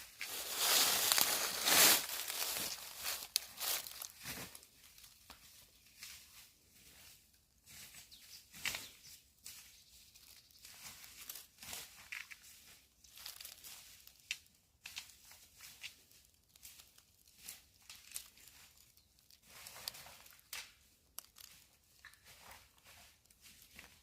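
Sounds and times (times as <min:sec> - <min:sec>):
rustling and crinkling: 0:00.0 - 0:24.0.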